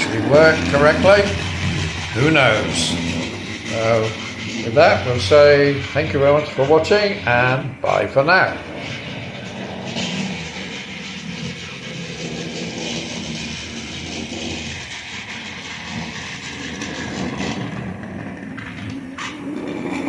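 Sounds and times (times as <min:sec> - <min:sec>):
model locomotive whirring: 0:00.0 - 0:20.0.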